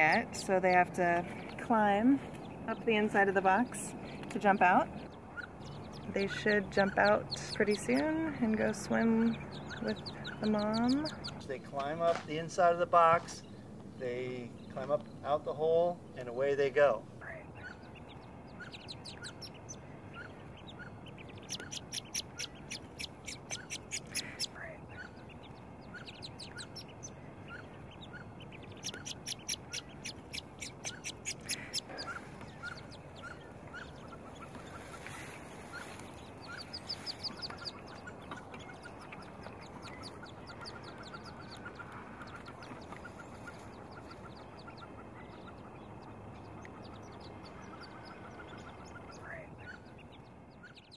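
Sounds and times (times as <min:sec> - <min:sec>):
ducklings peeping: 0:00.0 - 0:50.9.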